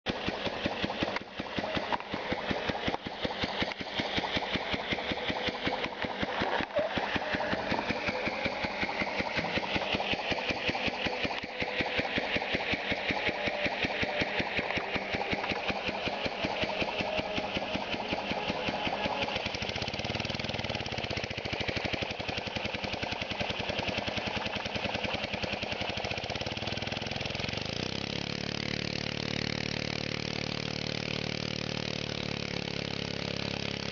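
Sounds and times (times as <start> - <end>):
air motor exhaust pulses: 0.1 - 33.9.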